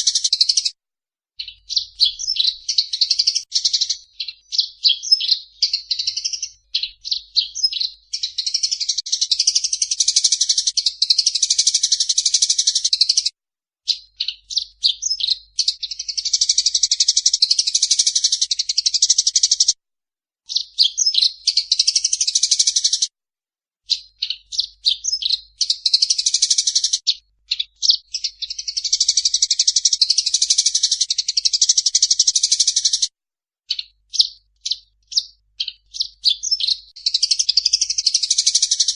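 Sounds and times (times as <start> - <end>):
sparrows chattering: 0.0 - 0.8, 1.4 - 13.3, 13.9 - 19.8, 20.5 - 23.1, 23.9 - 33.1, 33.7 - 38.9.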